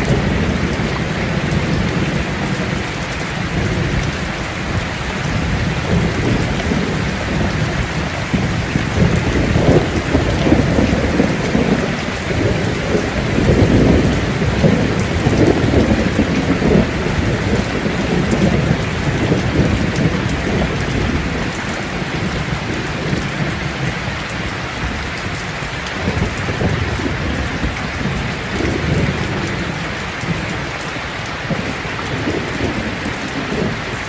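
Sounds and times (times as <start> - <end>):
rolling thunder: 0.0 - 25.4, 26.0 - 30.8, 31.4 - 34.0
heavy rain falling: 0.0 - 34.0.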